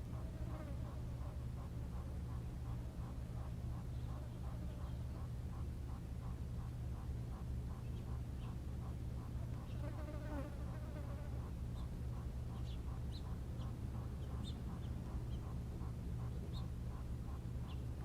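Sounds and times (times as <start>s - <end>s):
birds chirping: 0.0s - 10.4s, 11.3s - 18.0s
soft regular pulsing: 0.0s - 18.0s
steady low hum: 0.0s - 18.0s.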